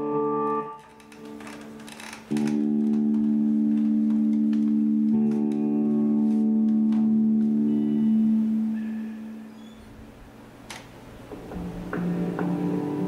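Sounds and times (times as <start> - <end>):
droning chord music: 0.0 - 9.5, 11.3 - 13.0.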